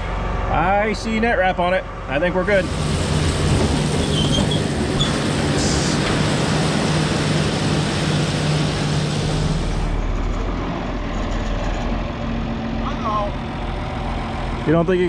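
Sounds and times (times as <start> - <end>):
round baler running: 0.0 - 15.0
tractor engine running: 0.0 - 15.0.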